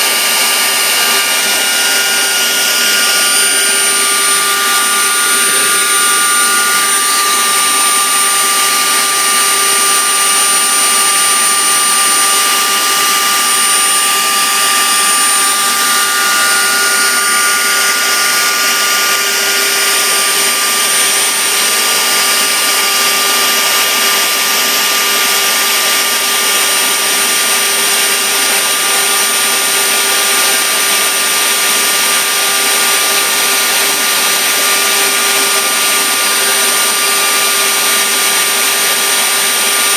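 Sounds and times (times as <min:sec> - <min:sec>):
motor whirring: 0:00.0 - 0:39.9.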